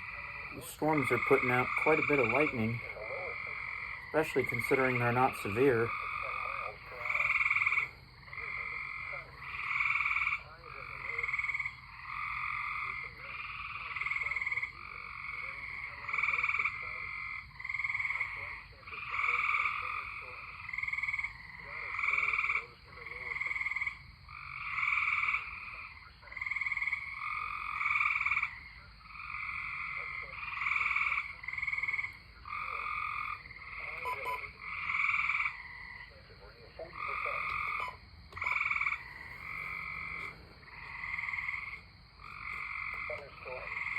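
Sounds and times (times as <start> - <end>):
tree frogs trilling: 0.0 - 43.9.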